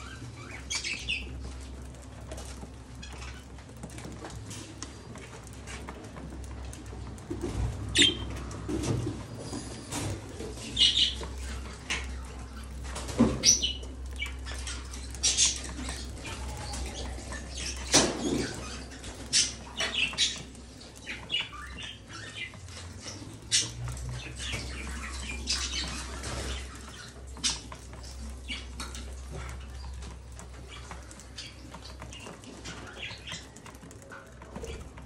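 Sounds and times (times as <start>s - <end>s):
budgerigars chirping and chattering: 0.0s - 35.0s.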